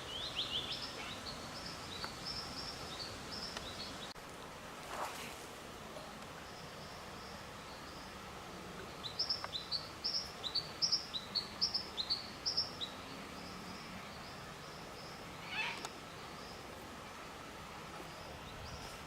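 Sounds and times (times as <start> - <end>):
faint bush background: 0.0 - 19.0.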